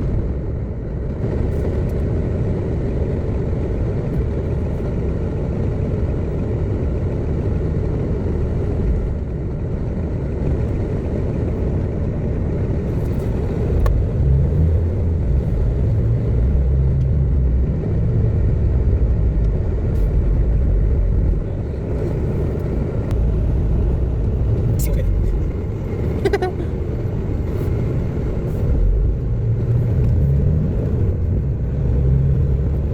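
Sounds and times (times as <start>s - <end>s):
car engine and road rumble: 0.0s - 32.9s.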